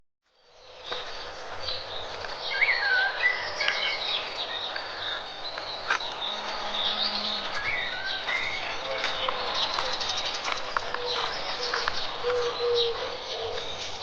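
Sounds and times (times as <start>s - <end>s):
birds singing and chirping: 0.3s - 14.0s
steady outdoor hiss: 0.3s - 14.0s.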